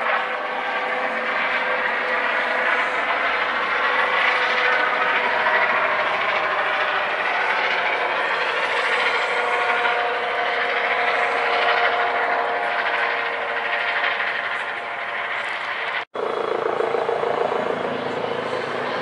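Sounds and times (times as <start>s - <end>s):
helicopter rotor noise: 0.0s - 19.0s
helicopter turbine whine: 0.0s - 19.0s.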